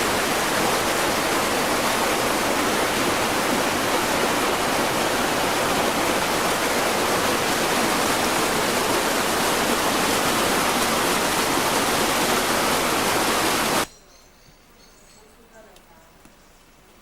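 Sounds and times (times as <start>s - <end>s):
torrent of fast-flowing water: 0.0s - 13.9s.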